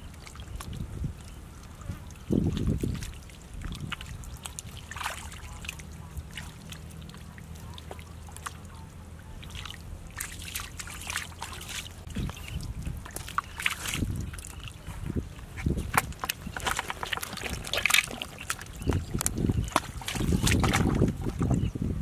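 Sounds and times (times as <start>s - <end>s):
hands squelching through wet mud: 0.0s - 21.6s.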